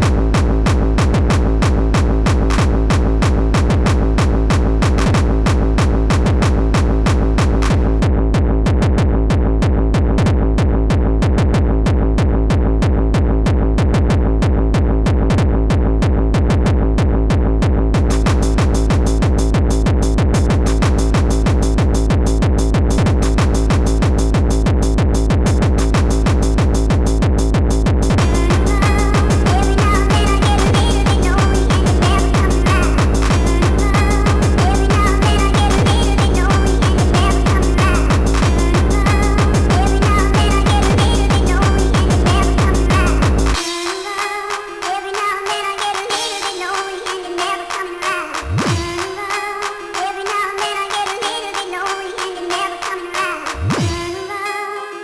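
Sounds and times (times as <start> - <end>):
drum machine beat: 0.0 - 54.2
electronic techno music: 0.0 - 55.0.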